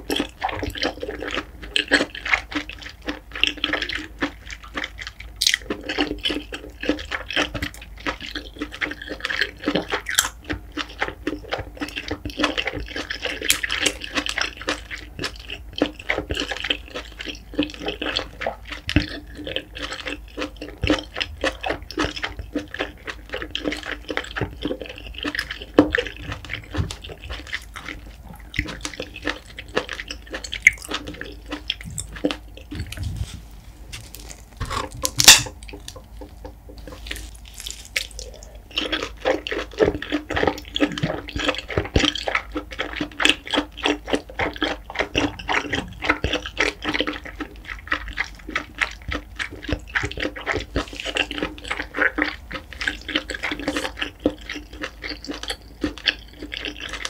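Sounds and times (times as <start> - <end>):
wet chewing with clicks: 0.0 - 57.0.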